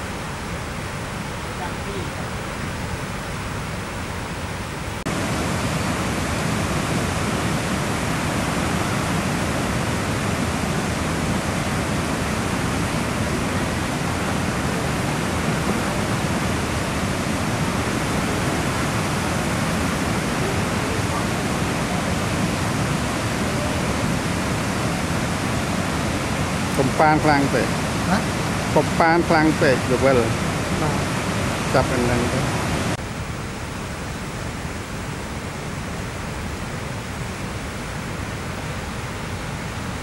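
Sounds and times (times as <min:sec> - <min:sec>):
water rushing over rocks: 0:00.0 - 0:40.0.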